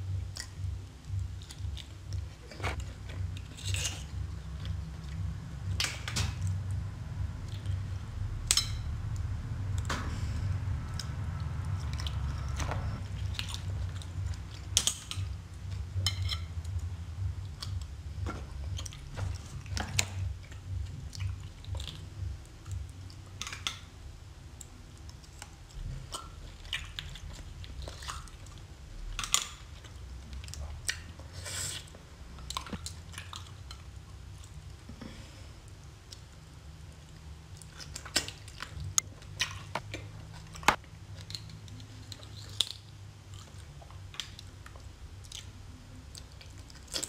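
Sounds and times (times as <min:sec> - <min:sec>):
close chewing and biting: 0:00.1 - 0:06.7, 0:09.8 - 0:23.9, 0:24.7 - 0:35.0, 0:37.0 - 0:47.0.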